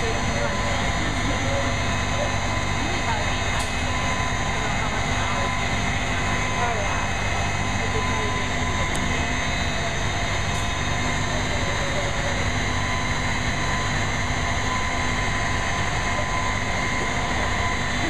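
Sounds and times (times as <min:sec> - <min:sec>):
constant whine: 0:00.0 - 0:18.0
crane engine droning under load: 0:00.0 - 0:18.0.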